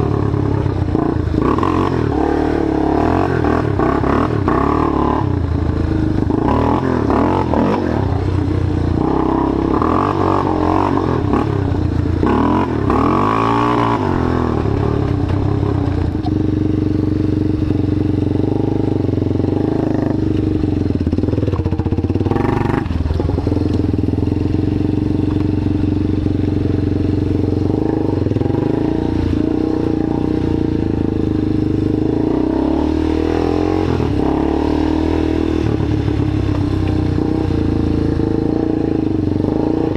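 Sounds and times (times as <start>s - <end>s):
atv engine running under load: 0.0s - 39.9s.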